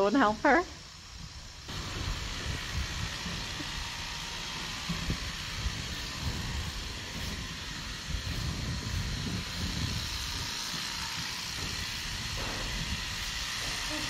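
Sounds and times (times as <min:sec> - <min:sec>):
electric horse clippers running: 0:00.0 - 0:14.0.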